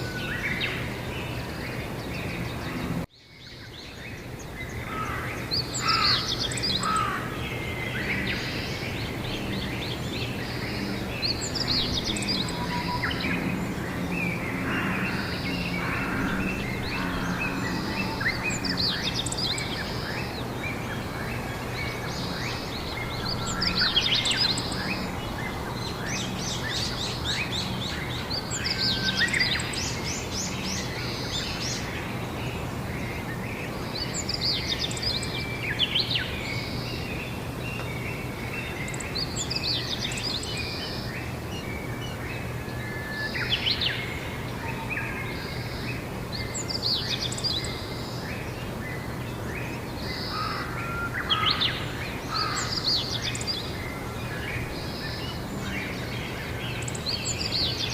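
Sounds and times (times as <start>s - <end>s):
background hiss: 0.0s - 57.9s
songbirds singing: 0.0s - 57.9s
low constant hum: 3.8s - 57.9s.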